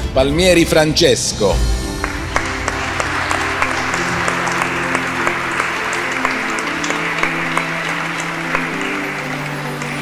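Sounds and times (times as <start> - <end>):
background music with long held notes: 0.0 - 10.0
audience applauding: 2.0 - 10.0.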